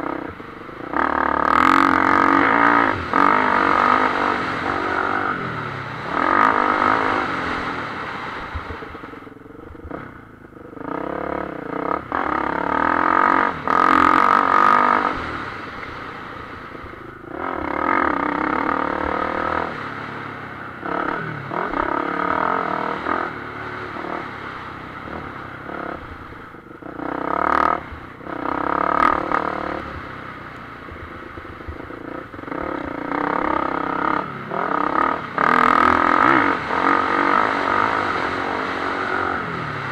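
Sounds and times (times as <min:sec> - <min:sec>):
motocross bike engine revving: 0:00.0 - 0:15.7, 0:16.8 - 0:30.3, 0:31.0 - 0:39.9.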